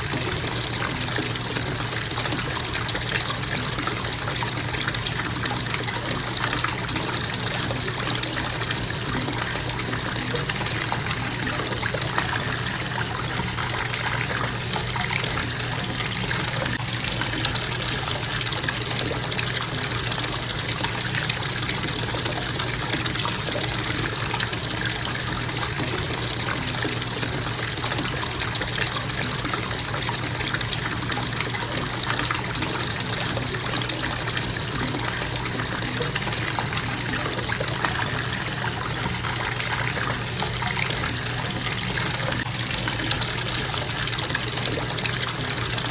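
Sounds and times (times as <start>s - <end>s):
faucet water running into tub: 0.0s - 45.9s.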